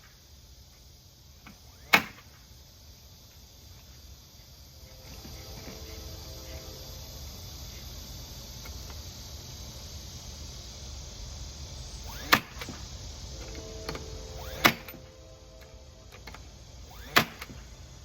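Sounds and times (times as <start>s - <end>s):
background hiss and hum: 0.0s - 18.0s.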